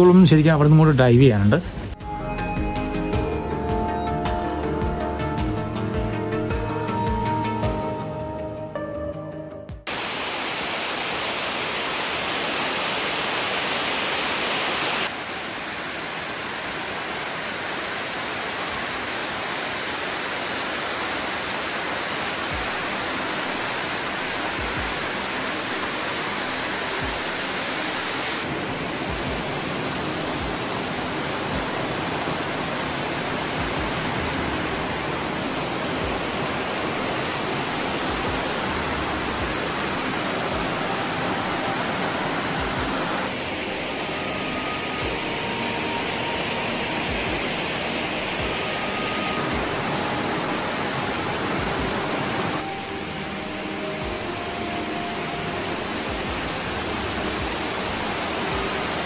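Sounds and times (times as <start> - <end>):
waterfall water rushing: 9.9 - 59.0.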